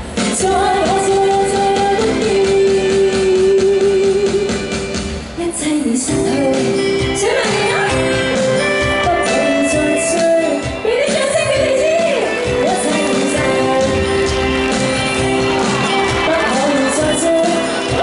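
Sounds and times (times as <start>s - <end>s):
pop backing music: 0.0s - 18.0s
woman singing into microphone: 0.2s - 14.6s, 16.2s - 18.0s.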